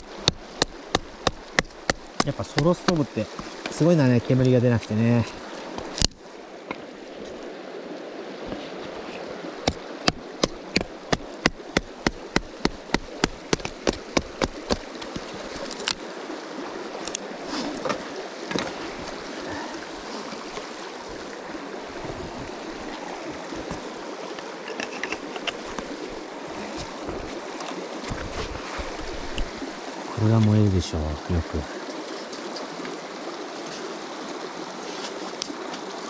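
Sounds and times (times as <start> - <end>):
river water running over stones: 0.0 - 36.0.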